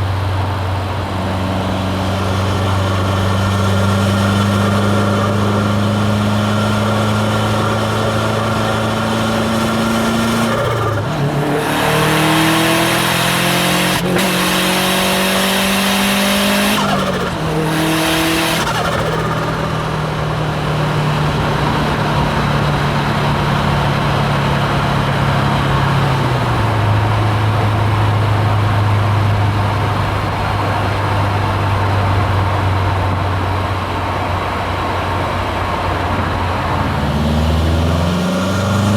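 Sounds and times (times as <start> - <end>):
turbocharged car engine pulling hard: 0.0 - 38.9.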